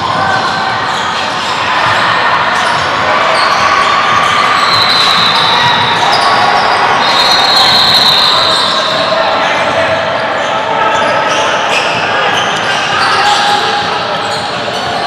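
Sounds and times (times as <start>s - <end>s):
players' voices: 0.0s - 15.0s.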